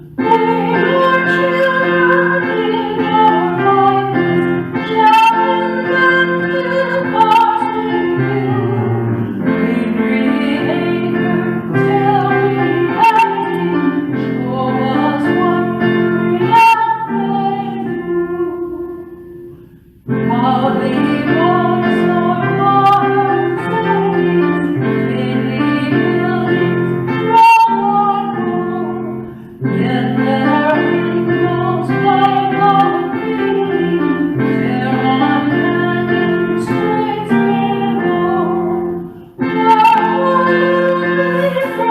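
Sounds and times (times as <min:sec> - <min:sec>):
woman singing a hymn: 0:00.0 - 0:19.1, 0:20.1 - 0:41.9
instrumental accompaniment: 0:00.0 - 0:41.9.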